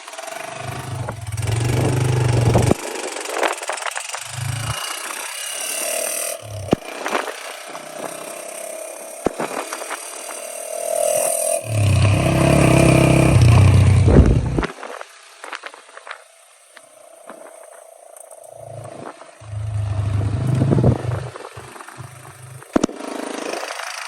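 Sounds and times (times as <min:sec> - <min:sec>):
motorcycle engine revving: 0:00.0 - 0:14.8, 0:18.5 - 0:24.0.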